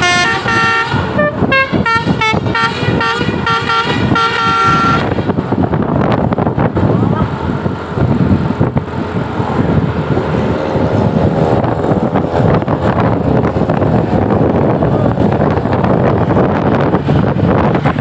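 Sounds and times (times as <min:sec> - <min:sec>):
large vehicle rushing past: 0:00.0 - 0:18.0
wind buffeting microphone: 0:00.0 - 0:18.0.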